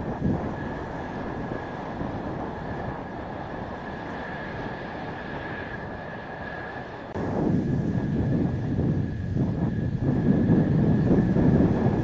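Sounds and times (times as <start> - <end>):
high-pitched jet whine: 0.0 - 12.0
jet engine rush: 0.0 - 12.0.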